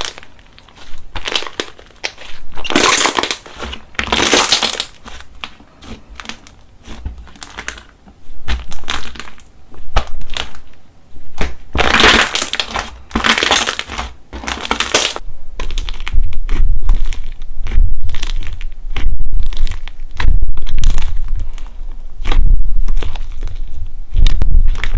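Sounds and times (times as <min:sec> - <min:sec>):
slime popping and crackling: 0:00.0 - 0:24.9
slime squelching: 0:00.0 - 0:24.9.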